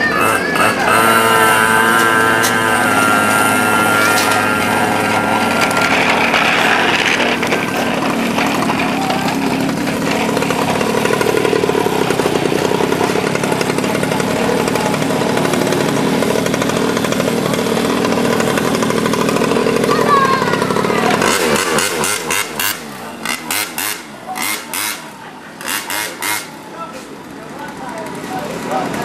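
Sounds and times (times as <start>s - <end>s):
small engine buzzing: 0.0s - 29.0s.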